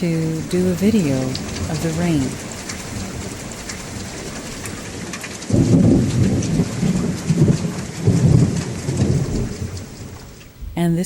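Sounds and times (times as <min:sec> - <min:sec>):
rolling thunder rumble: 0:00.0 - 0:10.8
heavy rain falling: 0:00.0 - 0:11.0.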